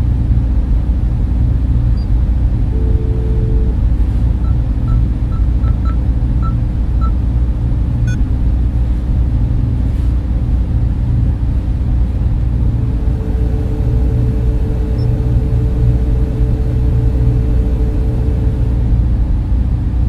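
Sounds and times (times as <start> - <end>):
server cooling fans humming: 0.0 - 20.0.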